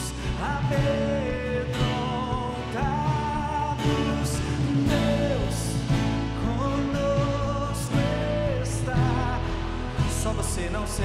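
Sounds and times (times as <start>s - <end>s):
bass: 0.0s - 11.0s
drums with cymbal hits: 0.0s - 11.0s
guitar: 0.0s - 11.0s
person singing worship song: 0.0s - 11.0s.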